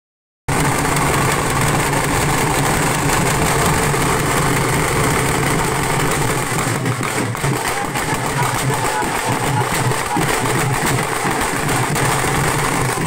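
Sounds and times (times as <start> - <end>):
drums beaten with sticks: 0.5 - 13.0.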